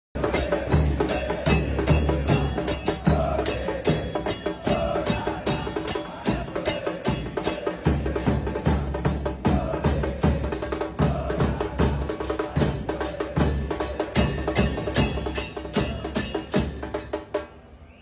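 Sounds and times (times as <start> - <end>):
crowd chanting in unison: 0.2 - 17.1
steady drum beat: 0.2 - 17.4.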